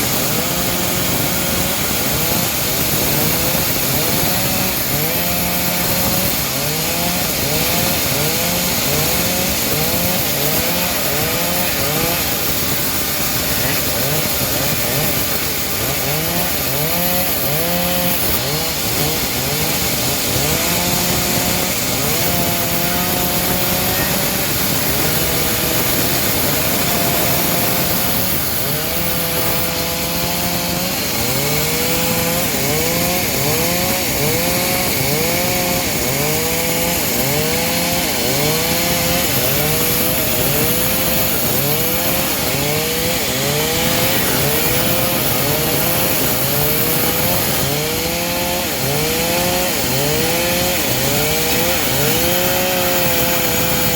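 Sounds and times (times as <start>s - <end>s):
hiss of cutting wood: 0.0s - 53.9s
saw engine revving: 0.0s - 53.9s.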